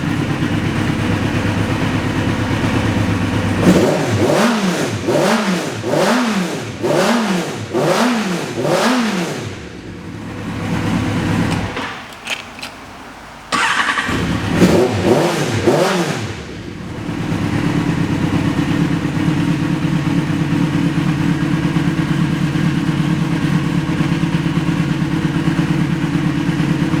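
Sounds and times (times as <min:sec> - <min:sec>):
motorcycle engine idling: 0:00.0 - 0:11.9, 0:13.5 - 0:27.0
motorcycle engine starting and revving: 0:00.0 - 0:12.8, 0:13.5 - 0:27.0.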